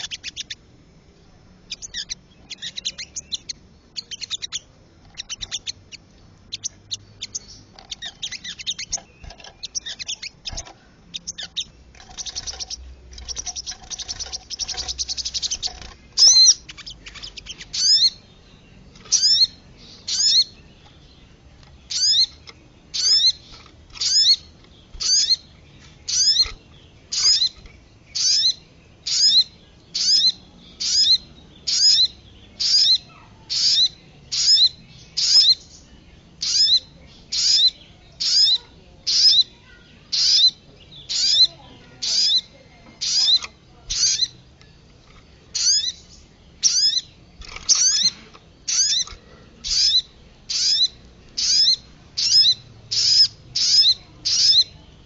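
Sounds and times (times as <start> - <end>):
fast high bird chattering: 0.0 - 0.6, 1.7 - 18.2, 19.1 - 20.6, 21.9 - 22.4, 23.0 - 25.4, 26.1 - 27.6, 28.2 - 35.6, 36.4 - 44.4, 45.6 - 46.0, 46.6 - 54.8.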